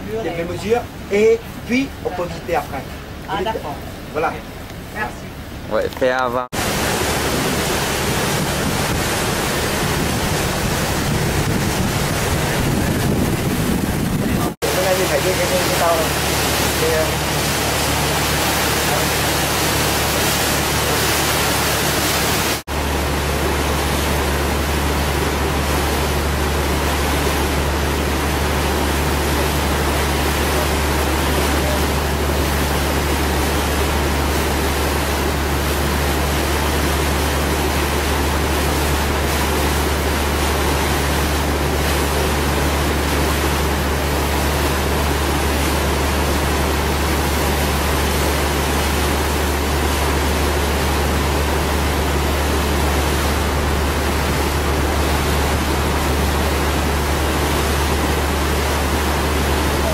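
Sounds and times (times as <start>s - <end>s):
low boat engine drone: 0.0s - 59.9s
rush of wind and water: 0.0s - 59.9s.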